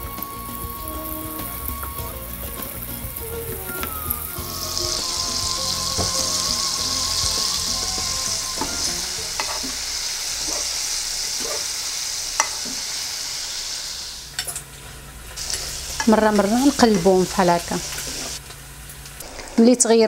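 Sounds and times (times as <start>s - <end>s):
fish sizzling in hot oil: 0.0s - 19.6s.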